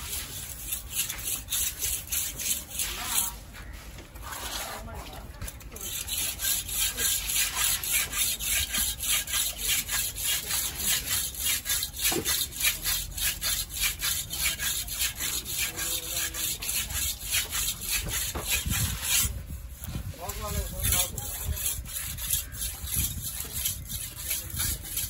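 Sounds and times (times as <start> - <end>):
knife sawing through fish flesh: 0.0 - 3.4, 4.2 - 4.9, 5.8 - 25.0.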